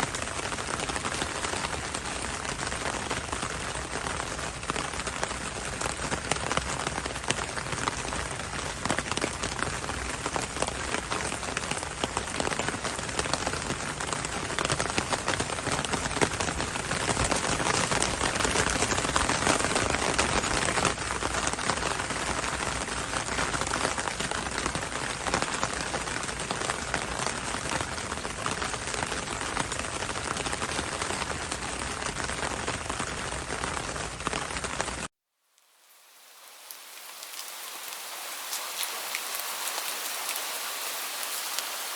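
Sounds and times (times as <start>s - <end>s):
heavy rain on hard surfaces: 0.0s - 41.9s.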